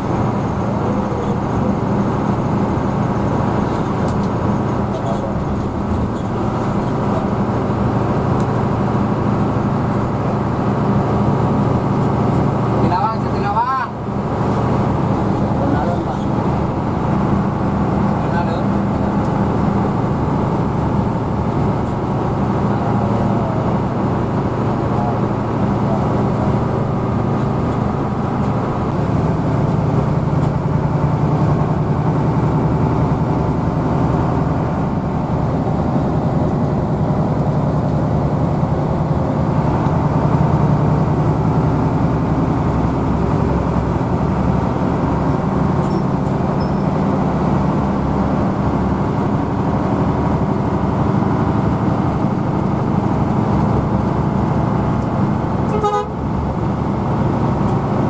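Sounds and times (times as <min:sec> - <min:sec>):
bus engine droning: 0:00.0 - 0:58.0
road noise: 0:00.0 - 0:58.0.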